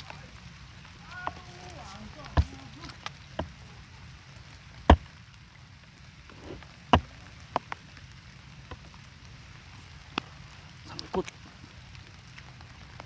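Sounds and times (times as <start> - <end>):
raindrops tapping near microphone: 0.0 - 13.0
steady rain falling: 0.0 - 13.0.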